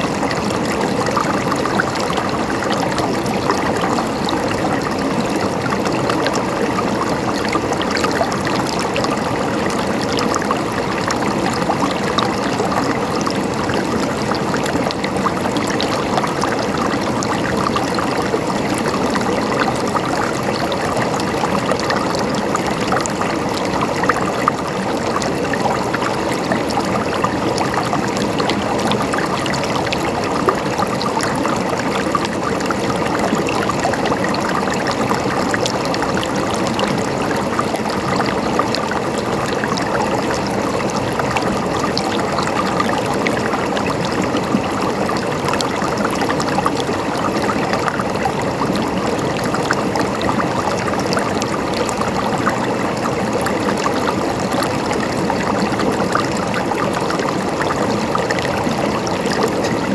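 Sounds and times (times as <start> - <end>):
stream flowing and gurgling: 0.0 - 59.9.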